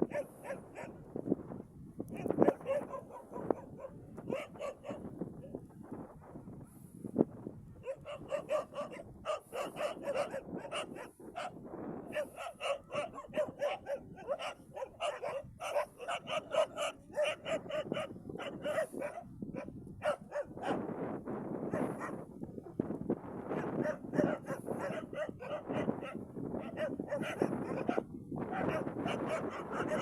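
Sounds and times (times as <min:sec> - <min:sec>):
dogs barking: 0:00.0 - 0:01.0, 0:02.1 - 0:05.5, 0:07.8 - 0:20.8, 0:21.7 - 0:22.3, 0:23.6 - 0:30.0.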